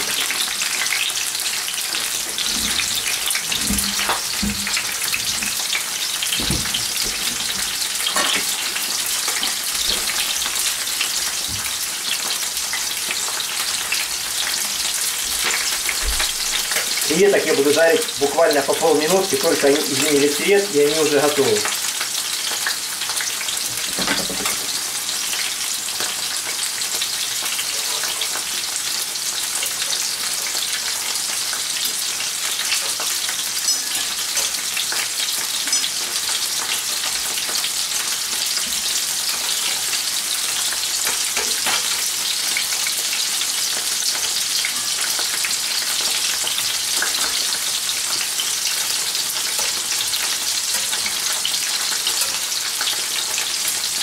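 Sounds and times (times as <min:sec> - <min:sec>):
prawns sizzling in oil: 0:00.0 - 0:54.0.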